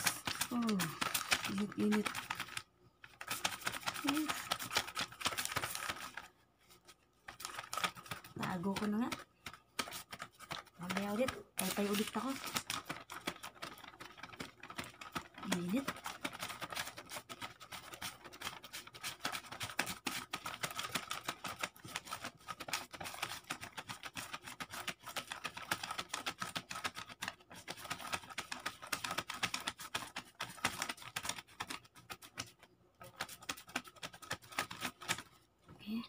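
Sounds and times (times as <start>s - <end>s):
banknotes flapping: 0.0s - 35.4s.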